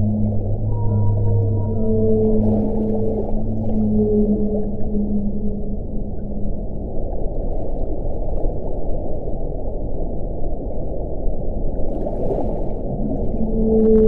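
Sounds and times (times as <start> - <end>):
low howling wind: 0.0 - 14.0.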